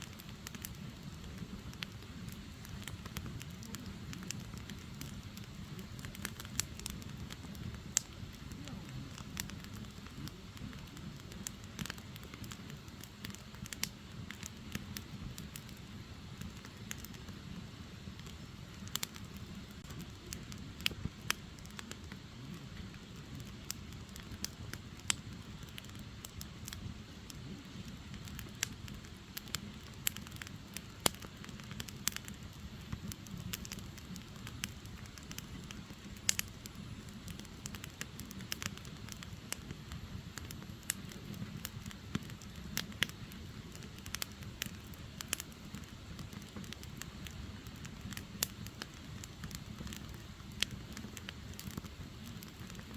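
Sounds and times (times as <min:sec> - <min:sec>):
firewood crackling and popping: 0:00.0 - 0:52.9
low rush of flame: 0:00.0 - 0:52.9.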